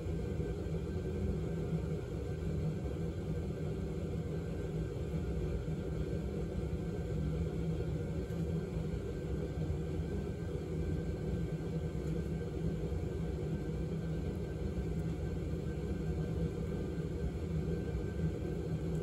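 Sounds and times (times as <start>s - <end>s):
low rumble with faint hum: 0.0s - 19.0s.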